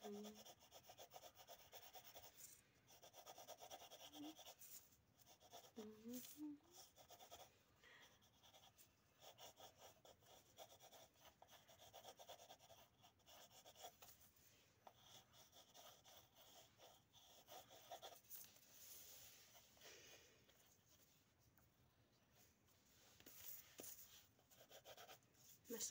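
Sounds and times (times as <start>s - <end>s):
pencils scratching on paper: 0.0s - 7.5s, 8.1s - 19.8s, 23.2s - 25.9s.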